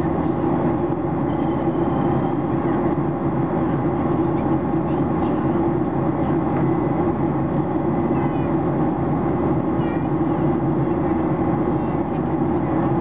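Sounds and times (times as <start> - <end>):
airplane cabin roar: 0.0 - 13.0
faint voices: 0.0 - 13.0.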